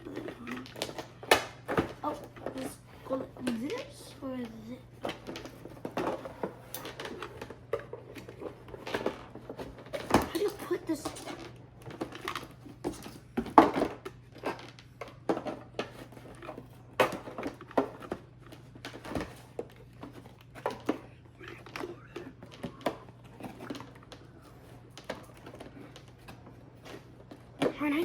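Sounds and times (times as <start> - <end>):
plastic parts clicking and knocking: 0.0 - 27.8.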